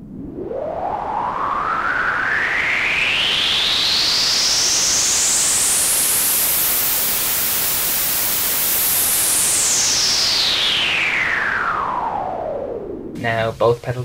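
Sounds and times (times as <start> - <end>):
synthesizer white noise hiss: 0.0 - 14.0.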